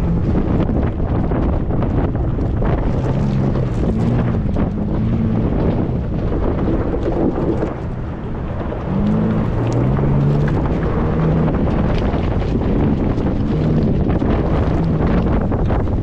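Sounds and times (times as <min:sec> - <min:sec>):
engine accelerating: 0:00.0 - 0:16.0
wind buffeting on microphone: 0:00.0 - 0:16.0.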